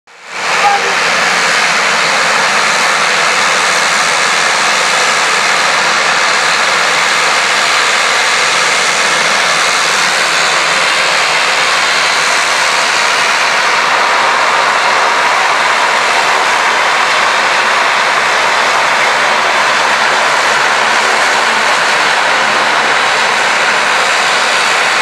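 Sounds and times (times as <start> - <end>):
turboprop engines running: 0.1 - 25.0.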